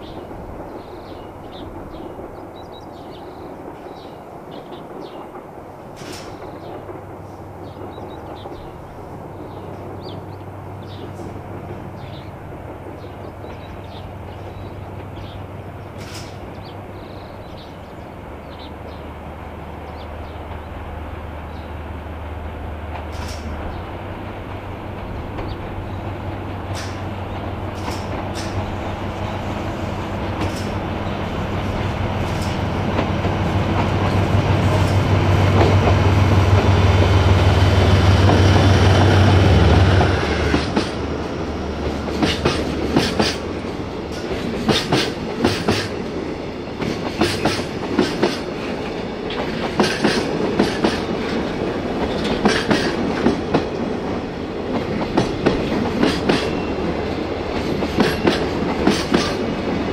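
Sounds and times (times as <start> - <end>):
train wheels clickety-clack: 0.0 - 10.2, 10.9 - 17.6, 22.9 - 23.9, 24.9 - 29.2, 30.1 - 59.9
diesel locomotive engine drone: 0.0 - 59.9.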